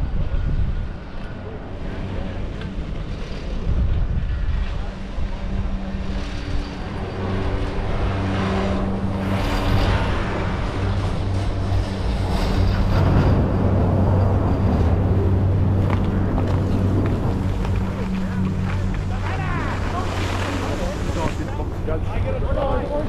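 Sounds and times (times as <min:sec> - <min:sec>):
chairlift machinery humming: 0:00.0 - 0:23.0
rushing noise: 0:01.8 - 0:23.0.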